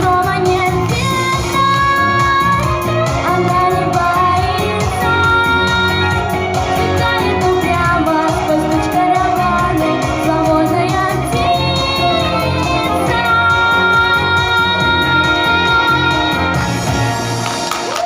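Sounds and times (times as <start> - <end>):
girl singing: 0.0 - 6.2, 6.8 - 16.6
instrumental pop backing: 0.0 - 18.0.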